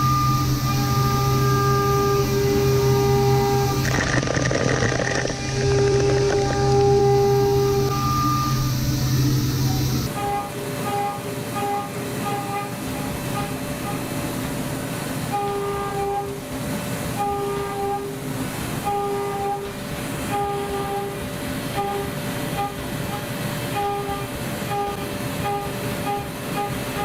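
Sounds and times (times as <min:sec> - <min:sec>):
milling machine spindle whine: 0:00.0 - 0:27.0.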